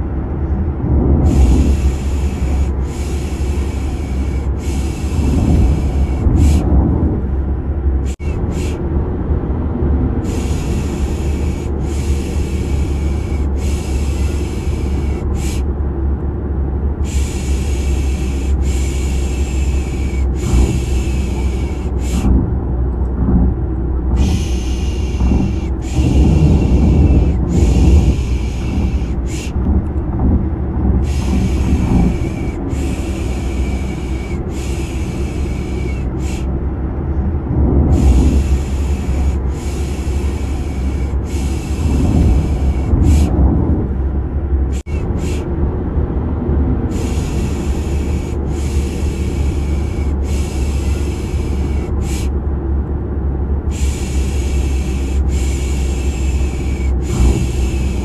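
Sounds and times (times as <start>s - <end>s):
low rumble of car noise: 0.0s - 58.0s.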